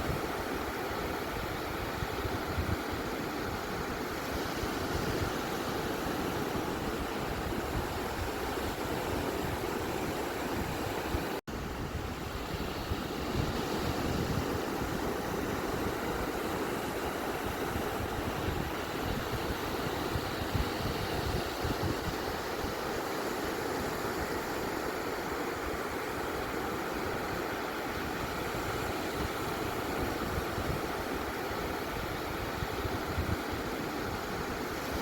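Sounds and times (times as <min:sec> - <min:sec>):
ocean surf washing on beach: 0:00.0 - 0:35.0.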